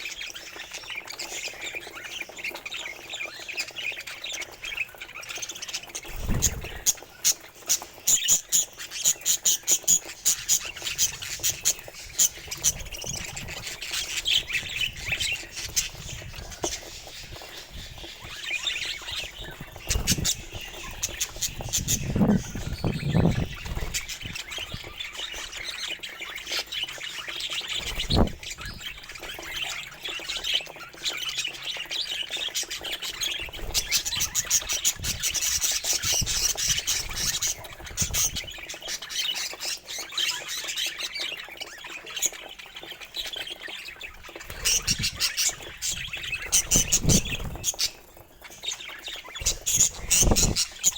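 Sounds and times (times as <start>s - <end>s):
budgerigars chirping: 0.0s - 50.9s.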